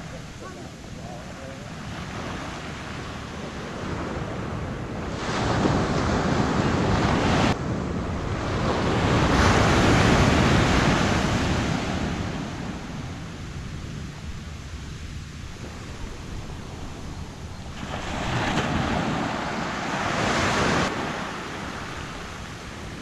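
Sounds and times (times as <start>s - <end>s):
waves washing up a beach: 0.0s - 23.0s.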